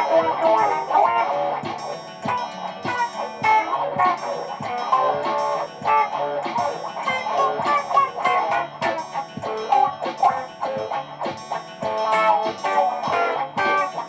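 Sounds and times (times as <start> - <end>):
percussive hits: 0.0 - 14.0
picked electric guitar notes: 0.0 - 14.0.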